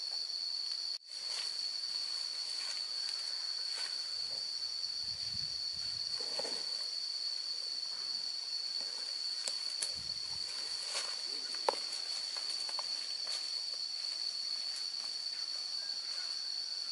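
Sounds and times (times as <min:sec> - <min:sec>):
insects droning: 0:00.0 - 0:16.9
rustles: 0:00.0 - 0:16.9
hiss: 0:00.7 - 0:15.2.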